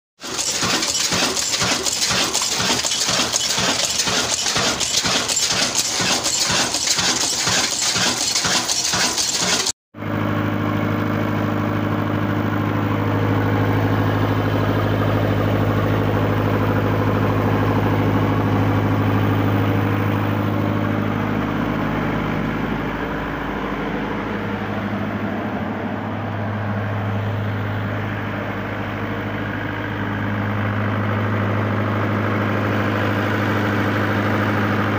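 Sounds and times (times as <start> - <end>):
old diesel engine clattering: 0.2 - 9.7, 10.7 - 34.9
diesel generator humming: 0.2 - 34.9.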